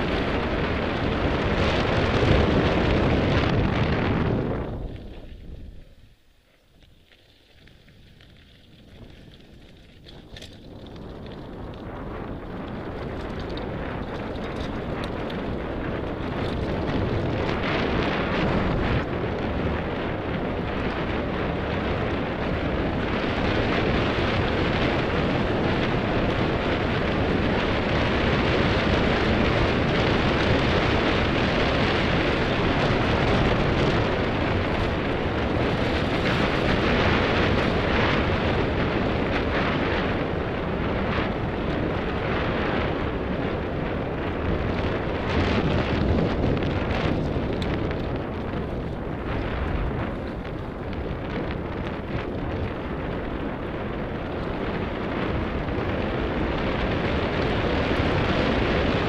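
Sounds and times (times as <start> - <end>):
bike tyres rumbling over gravel: 0.0 - 59.0
wind noise on microphone: 0.0 - 59.0.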